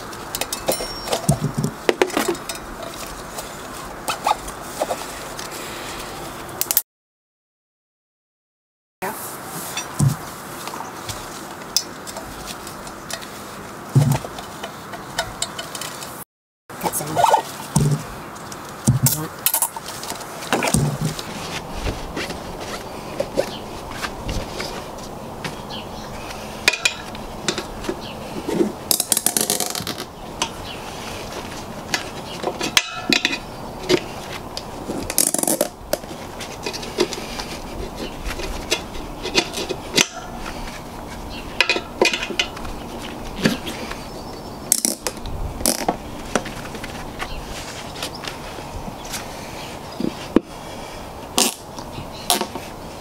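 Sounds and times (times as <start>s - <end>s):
hands handling straps and tire: 0.0s - 6.8s, 9.2s - 16.2s, 17.3s - 50.6s.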